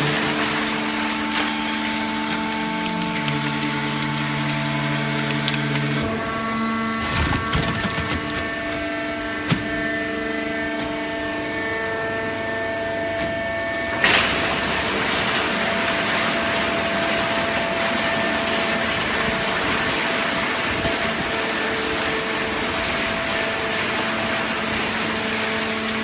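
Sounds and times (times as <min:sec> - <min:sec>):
baling press machine hum: 0:00.0 - 0:26.0.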